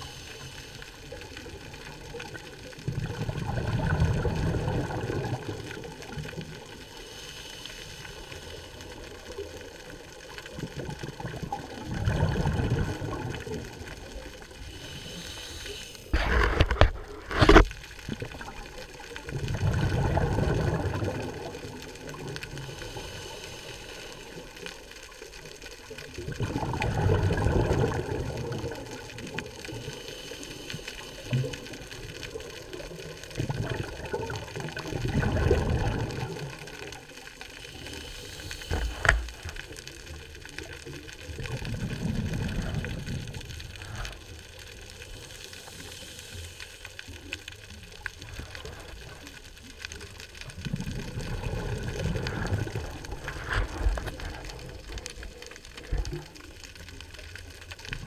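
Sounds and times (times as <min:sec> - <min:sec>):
underwater breath bubbling: 0:00.0 - 0:56.3
steady underwater hiss: 0:00.0 - 0:58.0.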